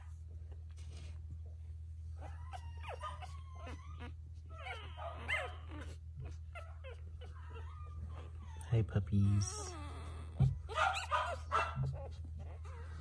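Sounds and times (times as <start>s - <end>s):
puppies squeaking: 2.1s - 13.0s.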